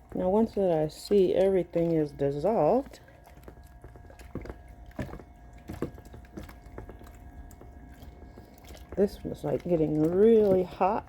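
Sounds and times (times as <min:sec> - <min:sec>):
faint hum: 0:00.0 - 0:11.0
utensil stirring in container: 0:00.0 - 0:11.0.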